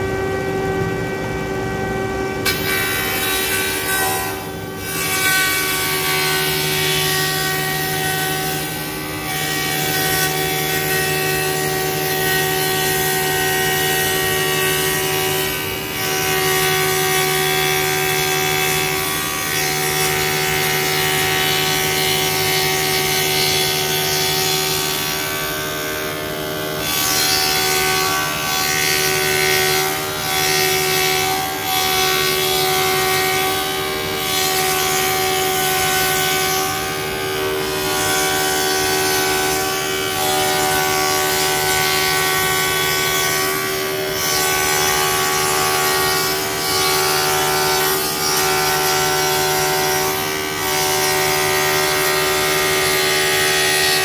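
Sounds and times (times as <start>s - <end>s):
wood shaper whining: 0.0s - 54.0s.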